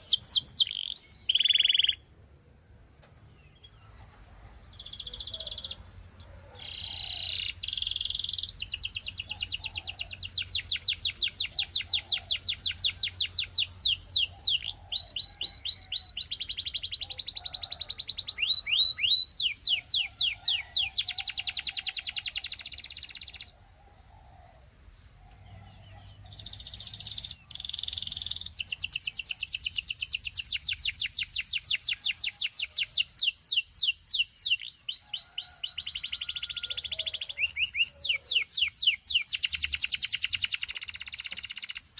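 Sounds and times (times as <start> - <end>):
canary singing trills: 0.0 - 2.1, 3.3 - 23.6, 25.2 - 41.9.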